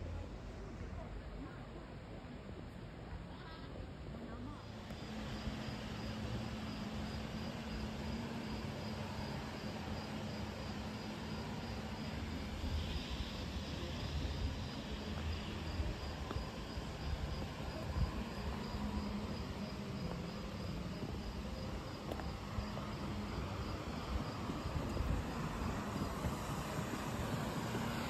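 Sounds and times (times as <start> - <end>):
low rumble and hiss: 0.0 - 28.0
crickets chirping: 4.2 - 28.0.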